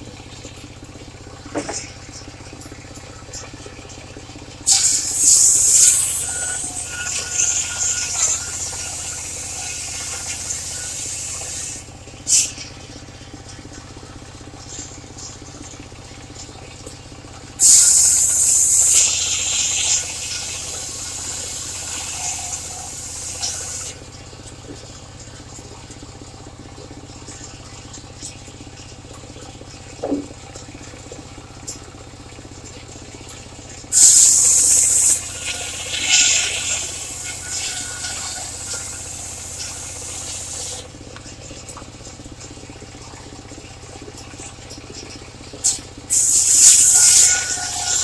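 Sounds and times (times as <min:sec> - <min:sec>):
sawmill engine running: 0:00.0 - 0:29.1, 0:30.7 - 0:48.0.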